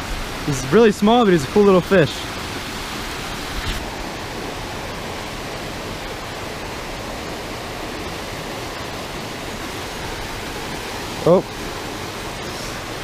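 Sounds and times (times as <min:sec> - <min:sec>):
water rushing over a weir: 0:00.0 - 0:13.0.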